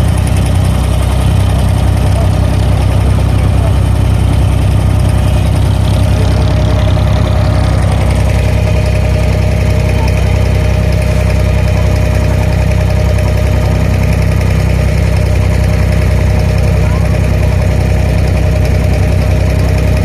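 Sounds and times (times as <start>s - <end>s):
boat diesel engine droning: 0.0s - 20.0s.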